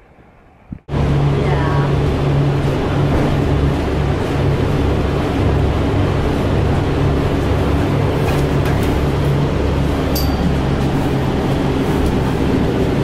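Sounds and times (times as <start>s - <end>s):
vehicle cabin drone and rumble: 0.3s - 13.0s.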